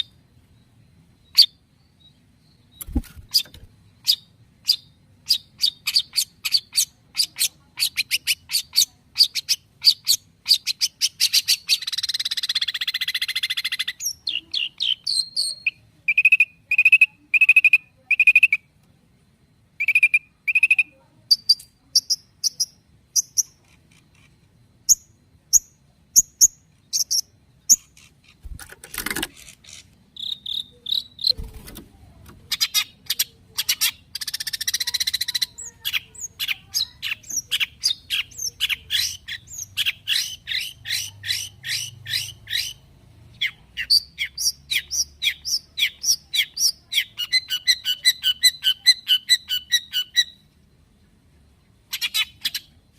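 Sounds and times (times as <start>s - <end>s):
bird singing varied song: 0.0s - 52.9s.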